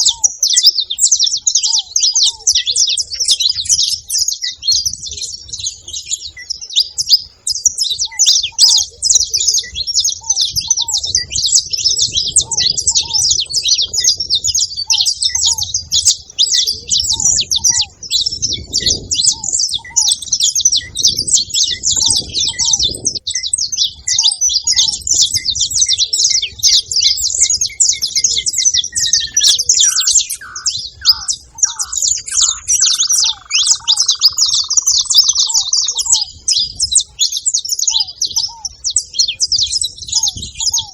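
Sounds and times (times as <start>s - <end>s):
finch chirping and chattering: 0.0s - 40.9s.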